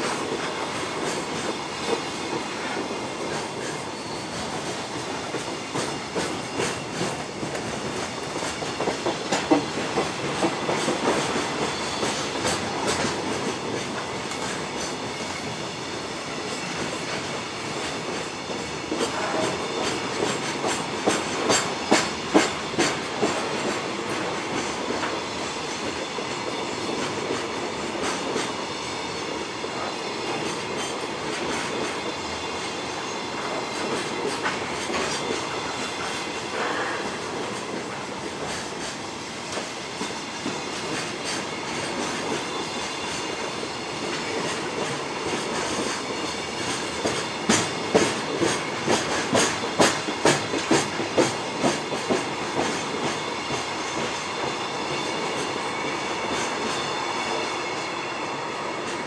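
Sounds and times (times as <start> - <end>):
freight train rumbling and rattling: 0.0 - 59.0.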